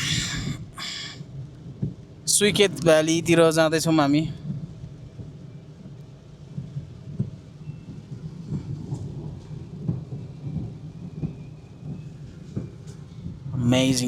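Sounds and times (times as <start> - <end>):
rain on car roof: 1.4 - 13.0.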